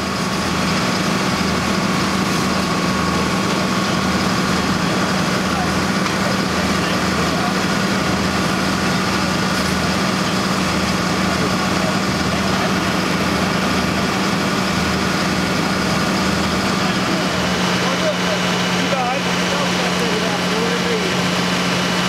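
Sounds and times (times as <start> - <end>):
diesel engines running steadily: 0.0 - 22.0.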